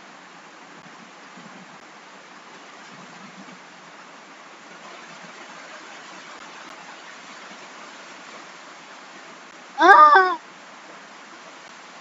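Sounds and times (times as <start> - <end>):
rain hiss: 0.0 - 12.0.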